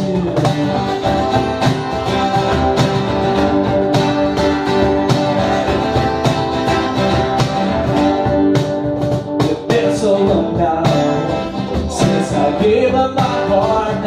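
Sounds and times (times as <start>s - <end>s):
guitar: 0.0s - 14.0s
steady drum beat: 0.0s - 14.0s.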